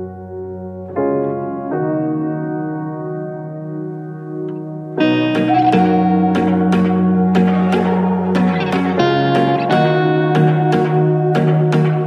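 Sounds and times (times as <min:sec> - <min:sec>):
sustained keyboard chords: 0:00.0 - 0:12.0.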